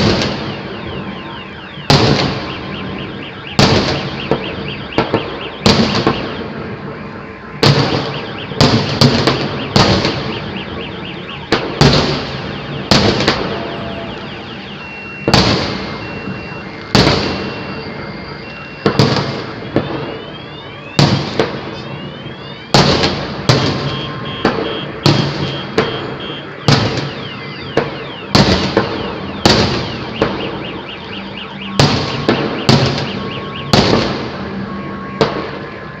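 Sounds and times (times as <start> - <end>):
fireworks crackle: 0.0 - 1.1, 1.8 - 6.9, 7.6 - 35.6
fireworks bangs: 0.0 - 35.8.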